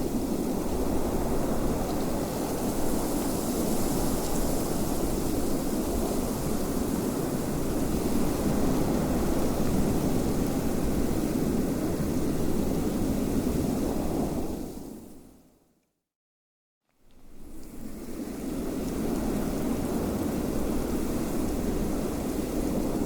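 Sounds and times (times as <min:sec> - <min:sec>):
wind blowing steadily: 0:00.0 - 0:15.2, 0:17.1 - 0:23.0.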